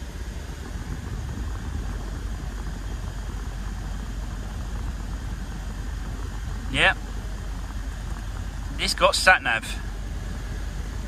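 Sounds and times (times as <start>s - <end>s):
car engine idling: 0.0s - 11.0s
car heater running: 0.0s - 11.0s.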